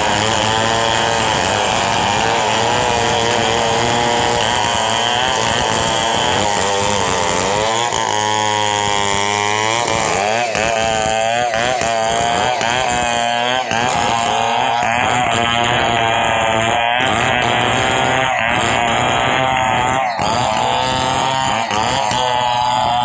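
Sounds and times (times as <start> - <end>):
chainsaws cutting log: 0.0 - 23.0.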